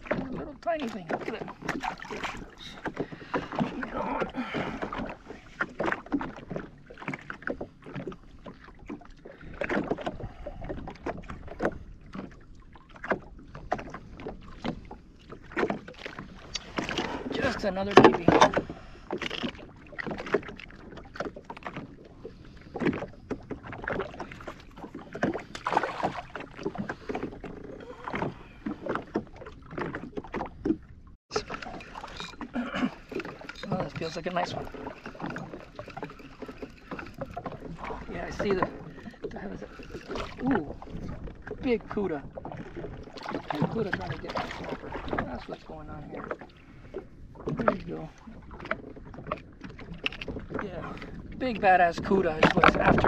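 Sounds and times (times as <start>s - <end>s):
waves slapping against hull: 0.0s - 53.0s.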